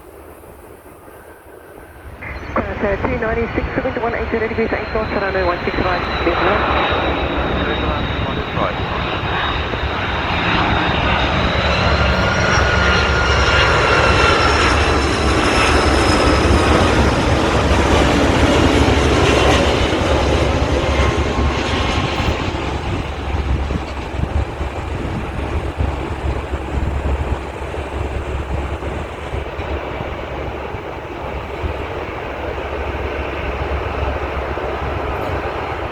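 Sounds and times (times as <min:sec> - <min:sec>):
jet airliner passing: 0:00.0 - 0:35.9.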